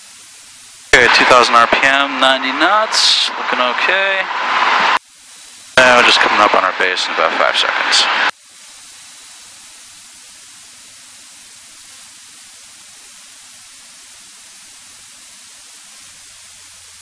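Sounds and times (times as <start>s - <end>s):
intercom electronic hiss: 0.0s - 17.0s.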